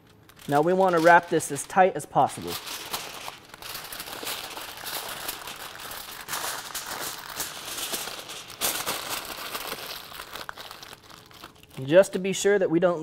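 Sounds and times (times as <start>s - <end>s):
aluminium foil crinkling: 0.0s - 12.3s.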